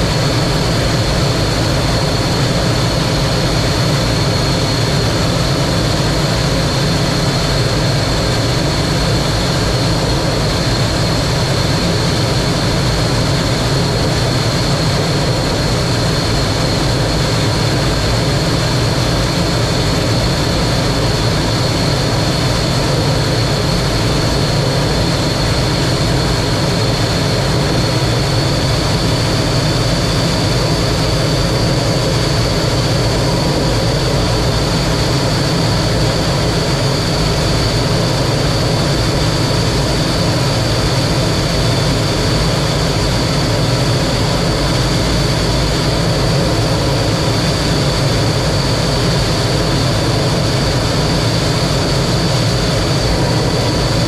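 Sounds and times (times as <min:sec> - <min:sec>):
jet engine rush and whine: 0:00.0 - 0:54.0.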